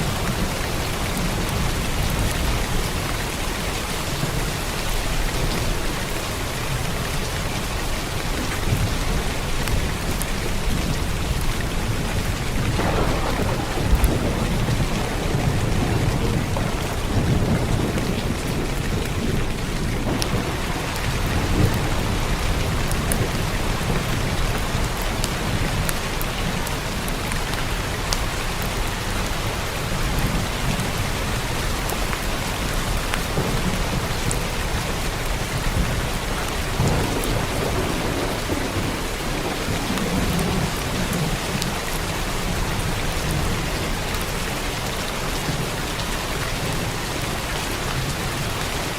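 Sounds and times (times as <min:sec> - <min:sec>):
low rolling thunder: 0:00.0 - 0:27.4, 0:29.8 - 0:48.9
heavy rain on a roof: 0:00.0 - 0:48.9.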